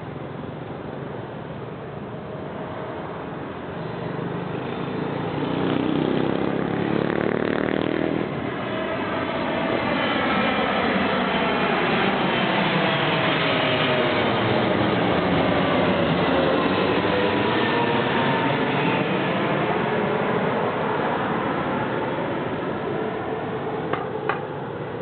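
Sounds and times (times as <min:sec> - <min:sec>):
airplane engine passing overhead: 0:00.0 - 0:25.0.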